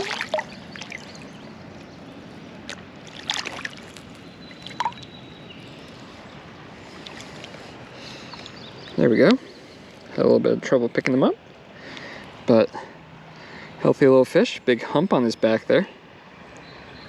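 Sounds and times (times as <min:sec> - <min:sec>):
creek water running: 0:00.0 - 0:16.4.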